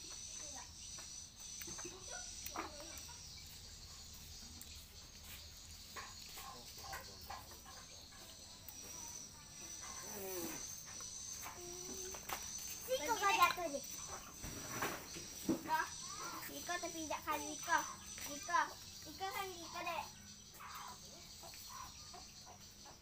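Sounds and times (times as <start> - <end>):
high insect whine: 0.0 - 23.0.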